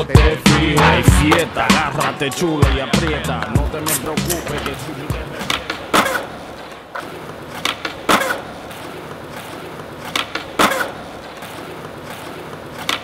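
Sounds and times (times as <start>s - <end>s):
skateboard clacks: 0.1s - 13.0s.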